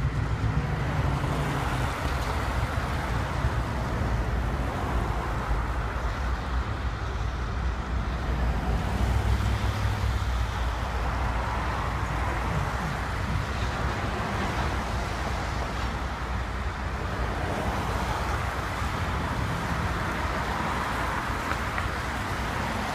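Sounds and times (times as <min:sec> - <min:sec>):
cars driving on street: 0:00.0 - 0:22.9
freight train rumbling: 0:00.0 - 0:22.9.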